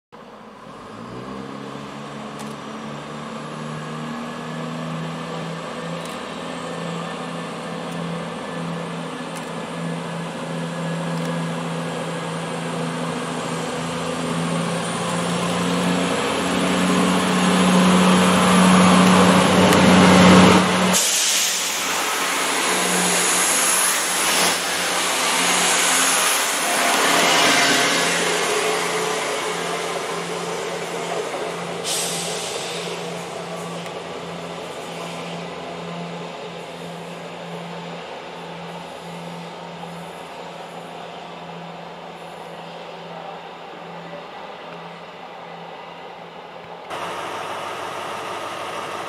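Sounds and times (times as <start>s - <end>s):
diesel train engine drone: 0.2s - 49.0s
train wheels rushing on rails: 0.9s - 49.0s.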